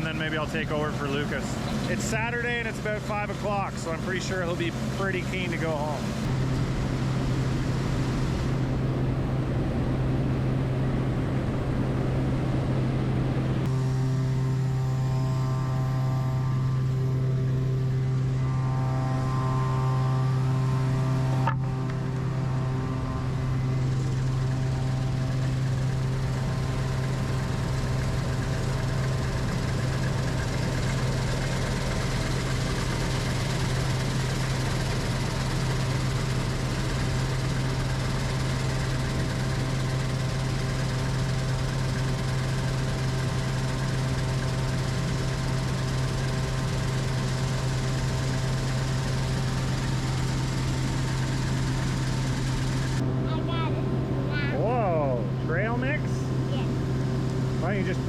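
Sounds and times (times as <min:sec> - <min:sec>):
farm machinery engine droning: 0:00.0 - 0:58.0.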